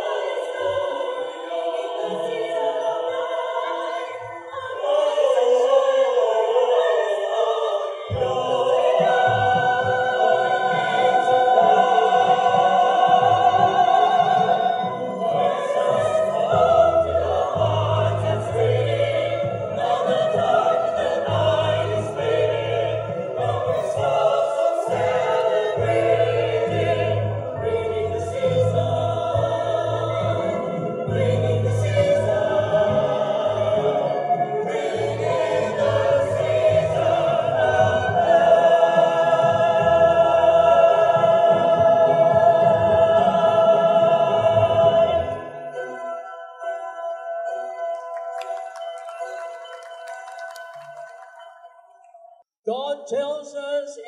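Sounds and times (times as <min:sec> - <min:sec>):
mixed choir singing in harmony: 0:00.0 - 0:47.8.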